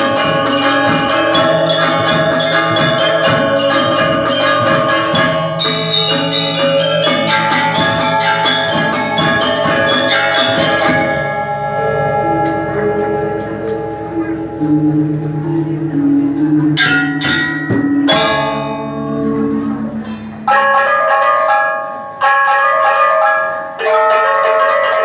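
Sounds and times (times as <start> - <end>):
sustained ringing tones: 0.0 - 21.2
struck ringing percussion music: 0.0 - 25.0.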